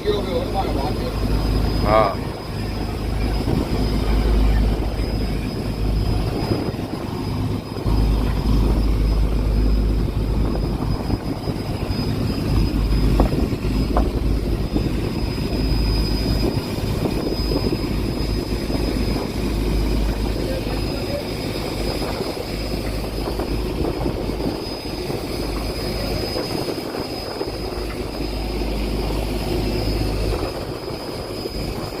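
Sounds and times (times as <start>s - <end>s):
boat engine droning: 0.0s - 32.0s
thin high whine: 0.0s - 32.0s.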